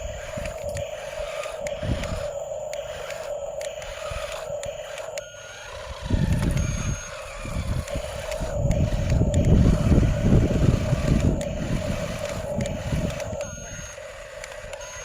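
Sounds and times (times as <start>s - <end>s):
heavy machinery droning whine: 0.0s - 15.0s
machinery low rumble: 0.0s - 15.0s.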